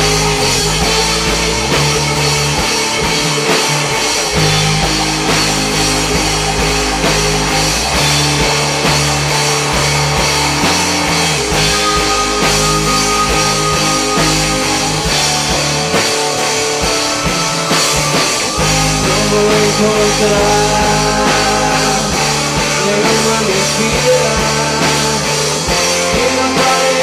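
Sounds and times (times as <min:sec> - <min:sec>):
pop rock band playing: 0:00.0 - 0:27.0.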